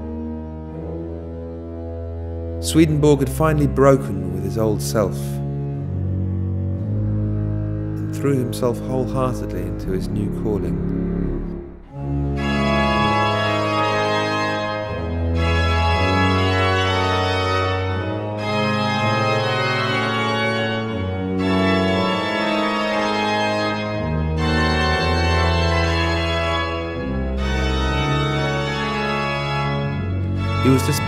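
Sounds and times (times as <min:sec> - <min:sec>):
organ chords: 0:00.0 - 0:31.0.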